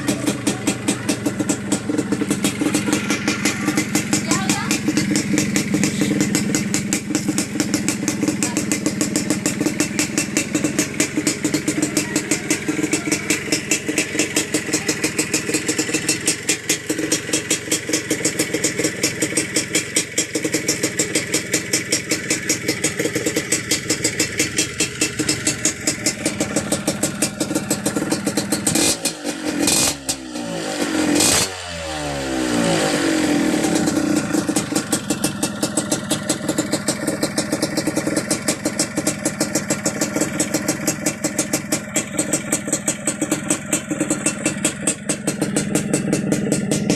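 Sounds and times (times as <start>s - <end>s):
two-stroke engine idling and revving: 0.0s - 46.9s.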